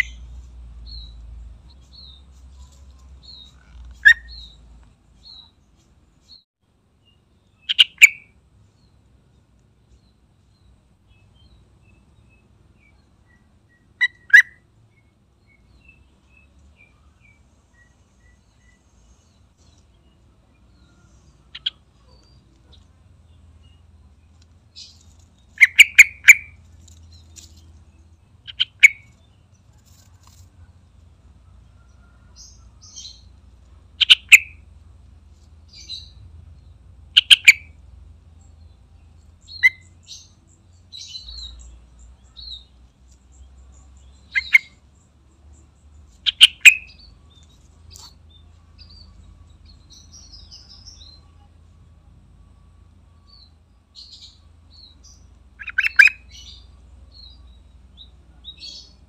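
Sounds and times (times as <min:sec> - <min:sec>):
faint high bird chirps: 0:00.0 - 0:06.5, 0:07.1 - 0:09.0, 0:09.9 - 0:30.8, 0:31.4 - 0:34.7, 0:38.4 - 0:59.0.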